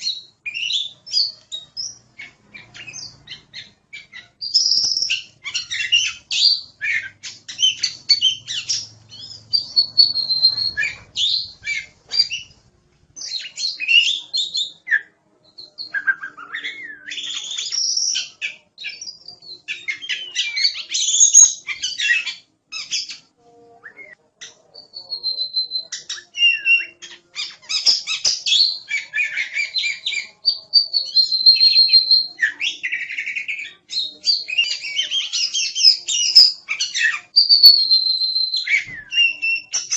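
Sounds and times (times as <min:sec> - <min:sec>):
magpie-robin singing: 0:00.0 - 0:12.6, 0:13.2 - 0:23.3, 0:23.9 - 0:39.9.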